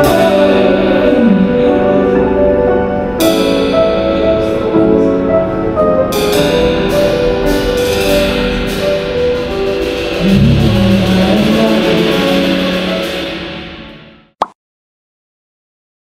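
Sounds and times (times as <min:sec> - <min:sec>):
instrumental music: 0:00.0 - 0:14.4.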